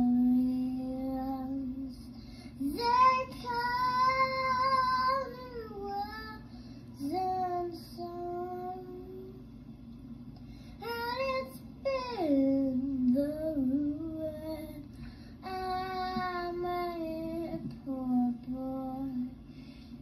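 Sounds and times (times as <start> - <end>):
girl singing: 0.0 - 9.6, 10.8 - 19.4.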